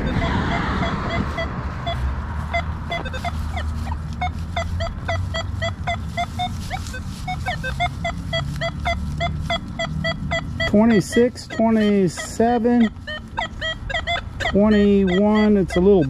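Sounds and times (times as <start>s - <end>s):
metal detector short beeps: 0.0s - 14.6s.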